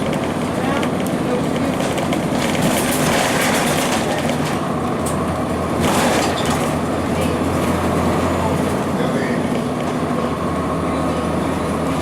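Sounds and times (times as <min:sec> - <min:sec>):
bus diesel engine humming: 0:00.0 - 0:12.0
road rumble: 0:00.0 - 0:12.0.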